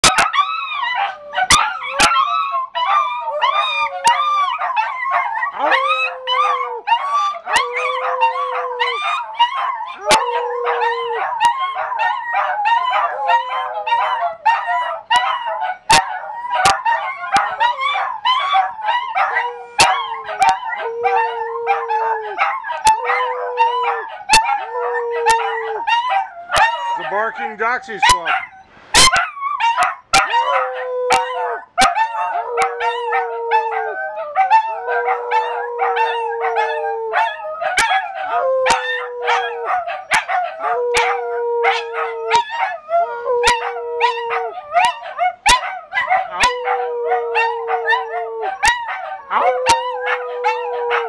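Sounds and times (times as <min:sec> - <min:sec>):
dogs howling and yipping: 0:00.0 - 0:51.0
low steady dog howl: 0:00.2 - 0:27.1, 0:29.2 - 0:51.0.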